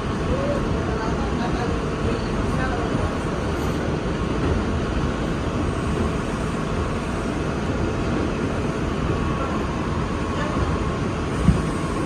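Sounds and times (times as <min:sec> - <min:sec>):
subway train wheels on rail: 0:00.0 - 0:12.0.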